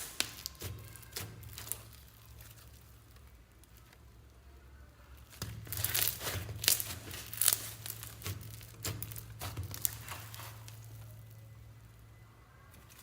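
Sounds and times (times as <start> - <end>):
slime crackling and popping: 0.0 - 4.4, 5.0 - 11.9.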